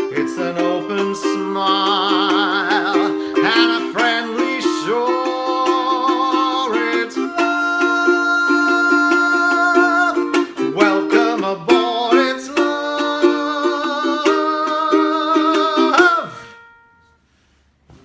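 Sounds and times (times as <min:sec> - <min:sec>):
ukulele strumming chords: 0:00.0 - 0:17.1.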